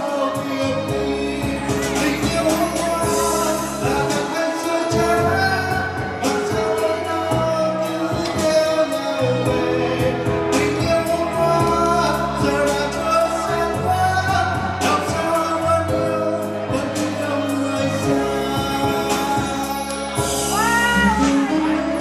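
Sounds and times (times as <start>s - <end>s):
instrumental accompaniment: 0.0s - 22.0s
man singing into a microphone: 0.0s - 22.0s.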